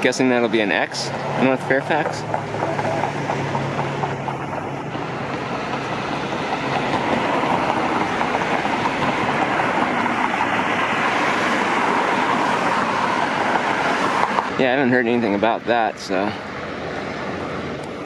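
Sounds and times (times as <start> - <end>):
rushing vehicle noise: 0.0 - 18.0.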